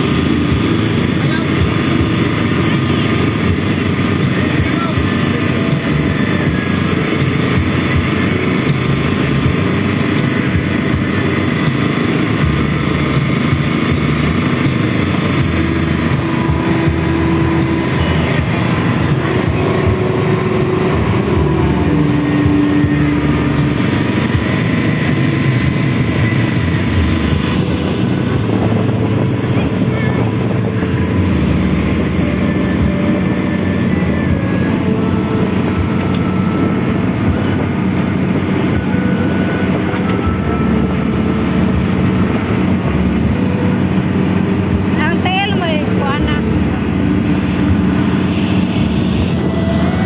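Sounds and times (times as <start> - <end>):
boat engine running: 0.0 - 50.0.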